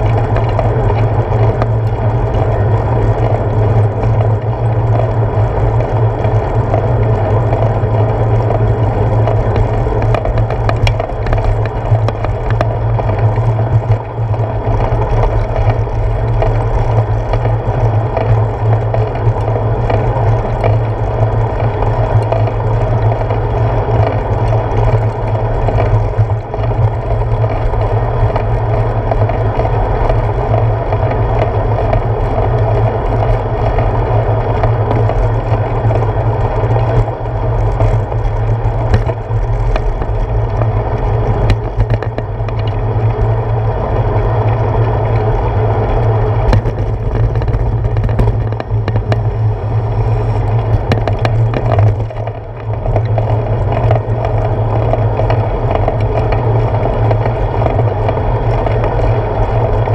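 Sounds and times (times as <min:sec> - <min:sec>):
bicycle rolling on pavement: 0:00.0 - 0:59.9.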